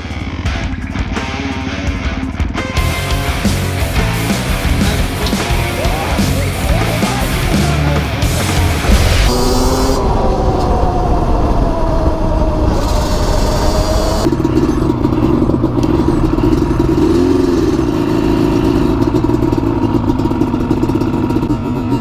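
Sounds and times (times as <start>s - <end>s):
motorcycle engine revving: 0.0s - 10.2s, 12.9s - 22.0s.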